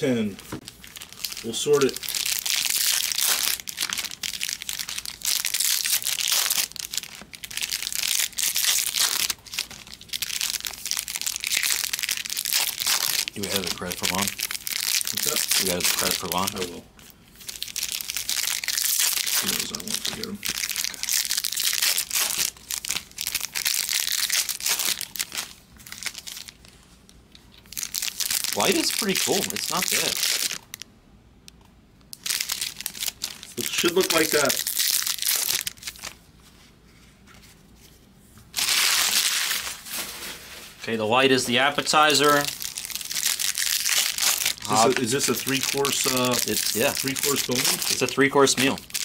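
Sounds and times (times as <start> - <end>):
foil wrappers crinkling and tearing: 0.5 - 30.8, 32.1 - 36.3, 38.5 - 41.1, 41.7 - 49.0.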